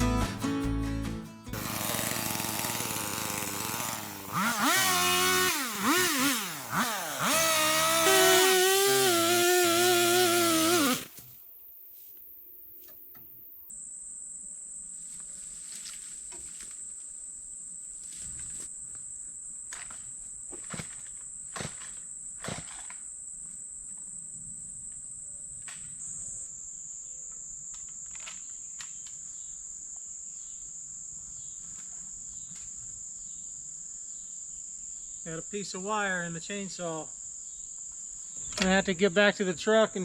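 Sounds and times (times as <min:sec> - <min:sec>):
insects chirring: 0:01.7 - 0:40.0.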